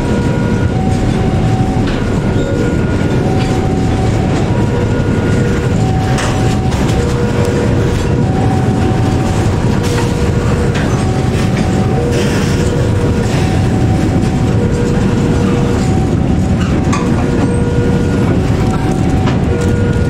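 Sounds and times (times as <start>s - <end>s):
freight train rumbling: 0.0s - 20.0s
two-note warning tone: 0.0s - 20.0s.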